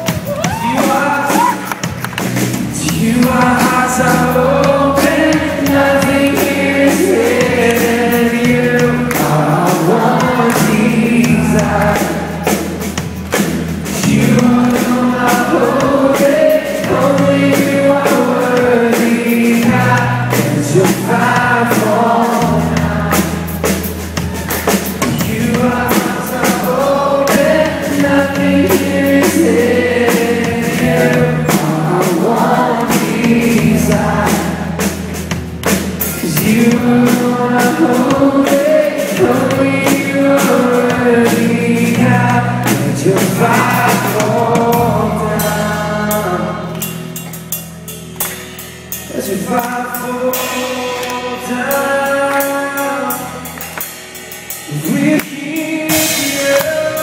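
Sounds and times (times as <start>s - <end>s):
man singing lead: 0.0s - 47.1s, 49.0s - 53.8s, 54.5s - 57.0s
drums: 0.0s - 57.0s
electric bass: 0.0s - 57.0s.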